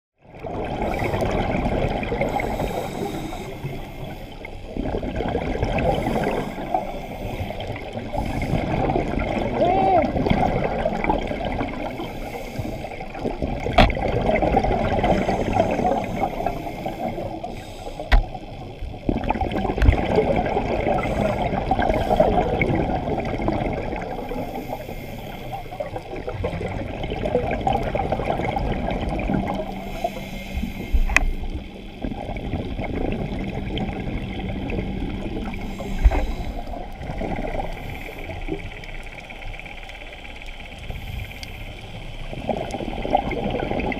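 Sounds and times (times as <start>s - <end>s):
bubbles gurgling underwater: 0.2s - 43.9s.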